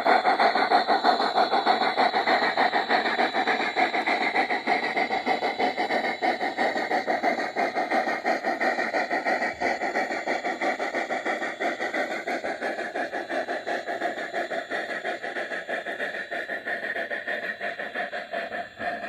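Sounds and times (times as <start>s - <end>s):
model train wheels clattering: 0.0s - 19.0s.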